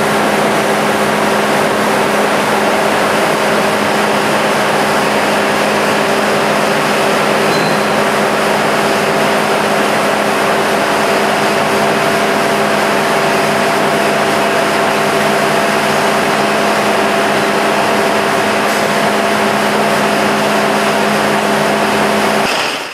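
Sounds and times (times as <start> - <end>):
bottle washing machine running: 0.0 - 22.9.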